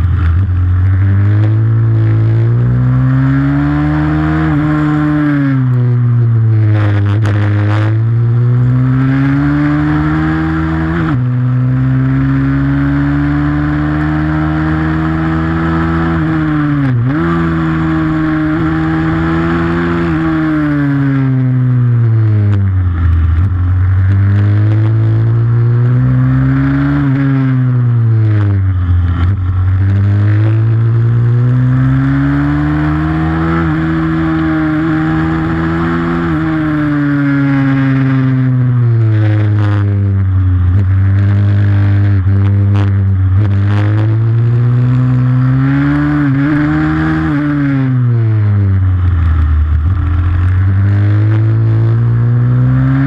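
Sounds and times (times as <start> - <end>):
motorbike engine revving: 0.0 - 53.0.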